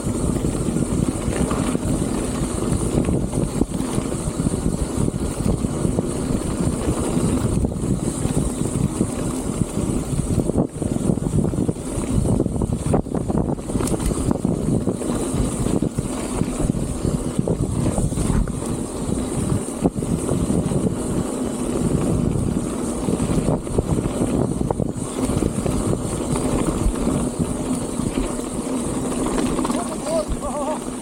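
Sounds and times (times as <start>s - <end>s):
strong wind buffeting microphone: 0.0s - 31.0s.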